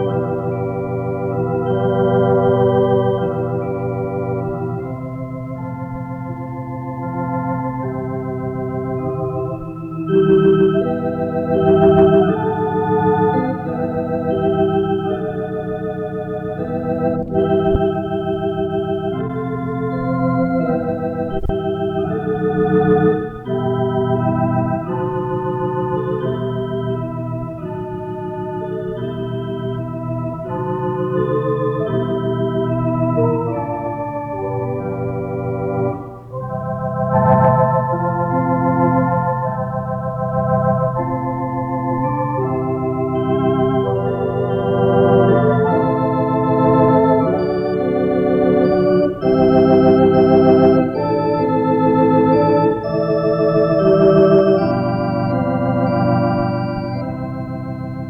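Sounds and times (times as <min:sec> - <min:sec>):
electric organ playing: 0:00.0 - 0:58.0.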